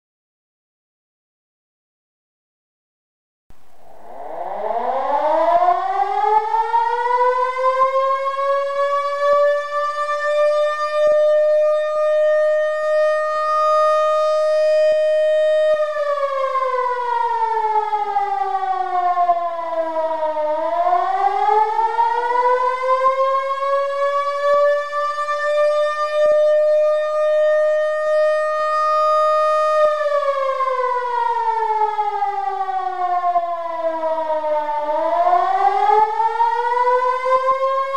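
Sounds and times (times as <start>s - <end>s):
electric motor siren wailing: 4.0s - 37.9s.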